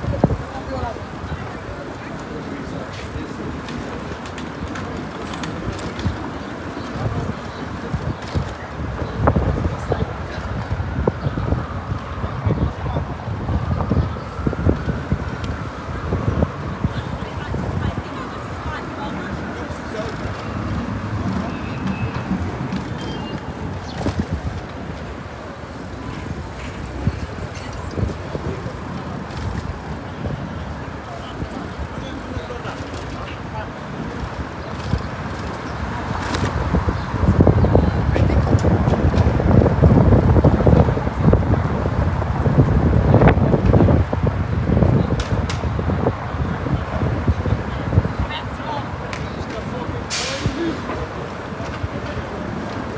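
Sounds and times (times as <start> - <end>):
city street traffic: 0.0 - 52.9
road and wheel noise: 0.0 - 52.9
wind buffeting microphone: 0.0 - 52.9.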